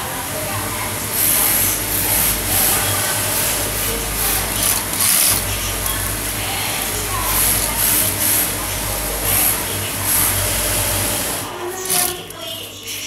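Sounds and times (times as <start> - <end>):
sewing machine stitching: 1.2 - 12.6.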